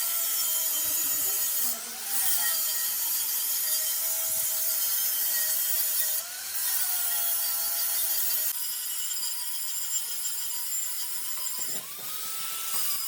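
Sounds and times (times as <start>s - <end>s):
power tool grinding metal: 0.0s - 13.0s.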